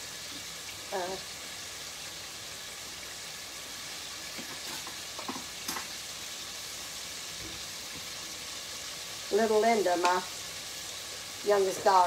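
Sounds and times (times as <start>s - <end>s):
food frying in hot oil: 0.0s - 12.0s.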